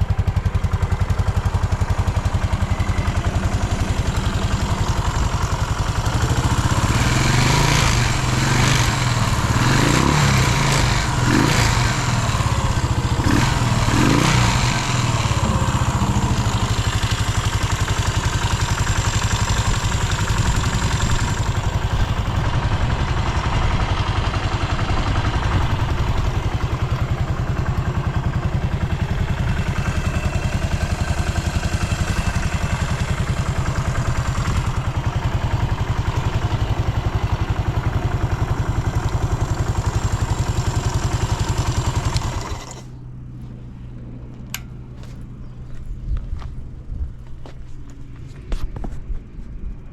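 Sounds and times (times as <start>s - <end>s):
motorcycle engine revving and idling: 0.0s - 49.9s.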